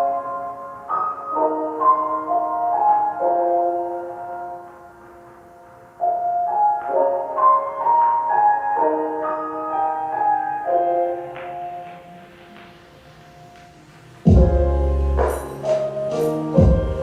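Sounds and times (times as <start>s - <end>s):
lo-fi keyboard music: 0.0s - 17.0s.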